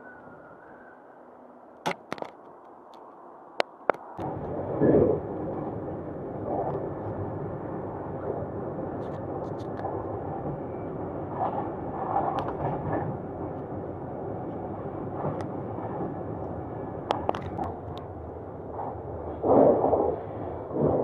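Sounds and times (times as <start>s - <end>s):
train rumbling from inside carriage: 0.0s - 21.0s.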